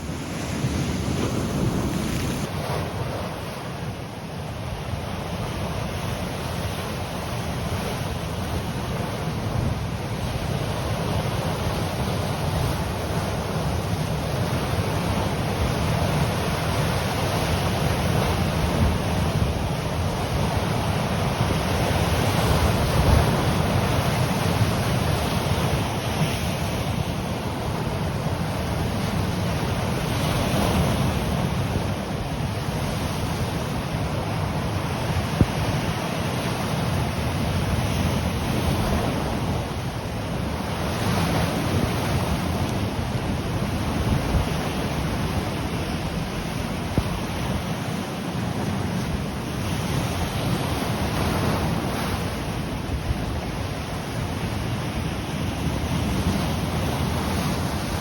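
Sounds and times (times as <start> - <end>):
ocean surf washing against coast: 0.0 - 58.0
wind rumble on microphone: 0.0 - 58.0.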